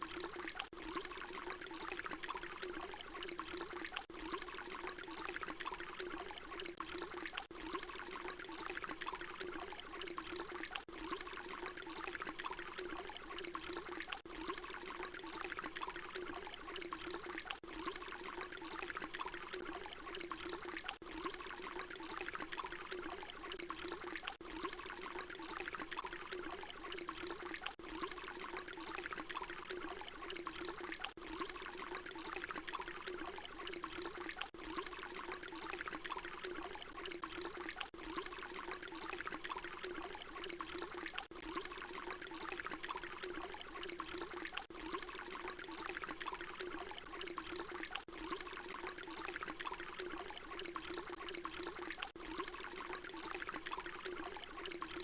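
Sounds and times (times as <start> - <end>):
water pouring: 0.0 - 55.0.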